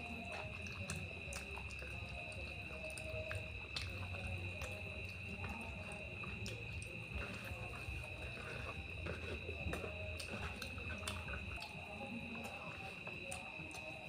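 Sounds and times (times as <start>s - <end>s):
chewing: 0.0s - 14.0s
fingers mixing rice and curry: 0.0s - 14.0s.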